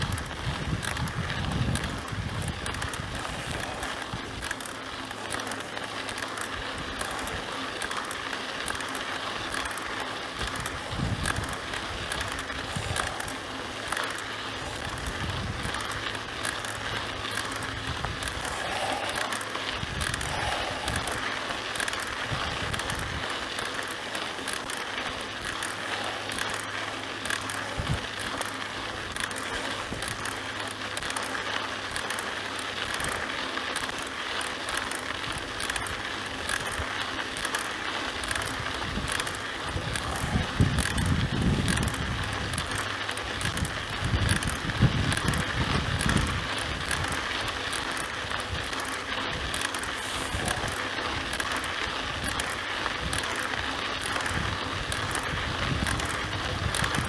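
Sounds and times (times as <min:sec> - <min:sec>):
bike frame rattling: 0:00.0 - 0:57.0
bike tyres crunching on dirt: 0:00.0 - 0:57.0.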